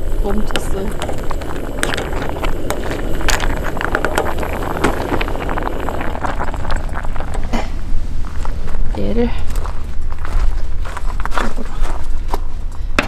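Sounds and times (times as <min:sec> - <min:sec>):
soup boiling and spattering: 0:00.0 - 0:13.0.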